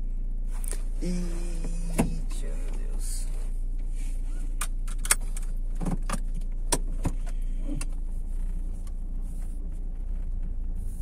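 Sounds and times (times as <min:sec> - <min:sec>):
car engine drone from inside: 0:00.0 - 0:11.0.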